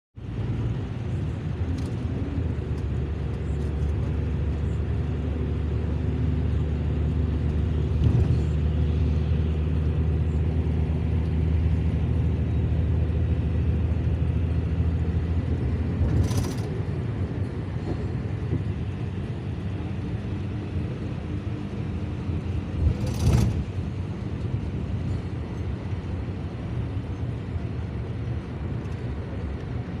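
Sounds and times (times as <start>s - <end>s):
vehicle driving on wet road: 0.2s - 30.0s
loud rush of passing vehicle: 4.0s - 28.4s.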